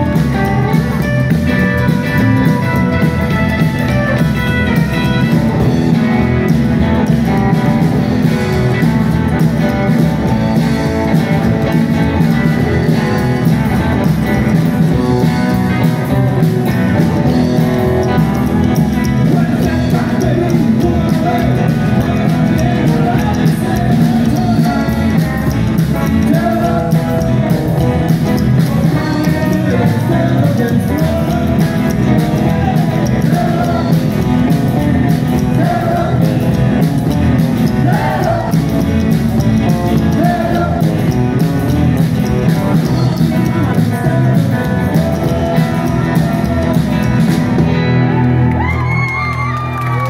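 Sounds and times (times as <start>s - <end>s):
rockabilly band playing: 0.0s - 50.0s.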